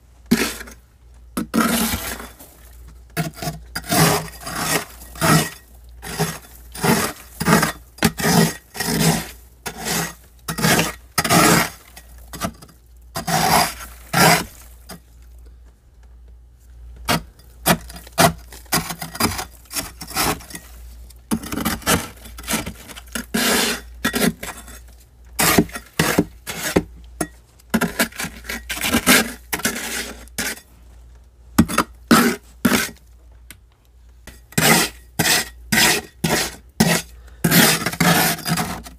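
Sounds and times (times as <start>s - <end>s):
frost scraped off freezer walls: 0.3s - 0.8s, 1.4s - 15.1s, 17.0s - 26.9s, 27.7s - 30.7s, 31.6s - 33.0s, 34.3s - 38.9s.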